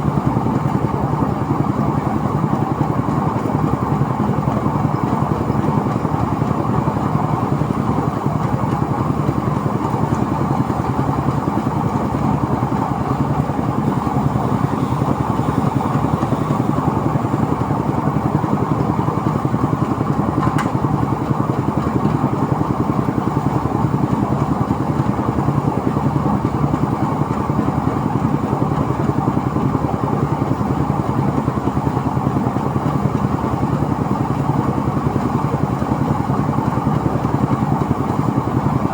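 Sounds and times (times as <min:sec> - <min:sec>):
threshing machine engine running: 0:00.0 - 0:38.9.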